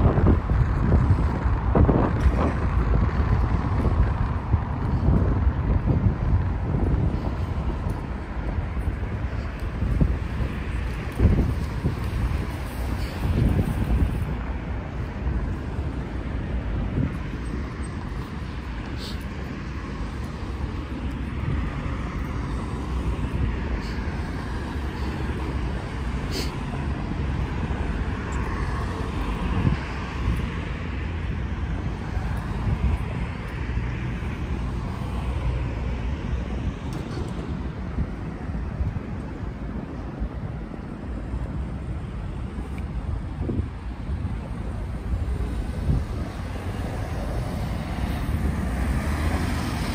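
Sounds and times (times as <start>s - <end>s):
car traffic: 0.0s - 49.9s.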